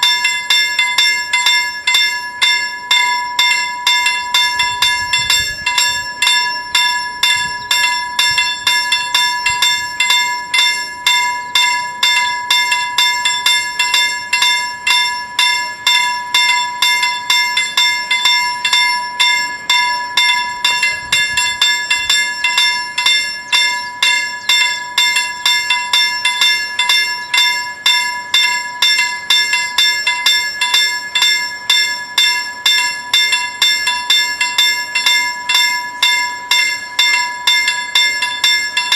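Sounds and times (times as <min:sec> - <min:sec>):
level crossing bells ringing: 0:00.0 - 0:38.9.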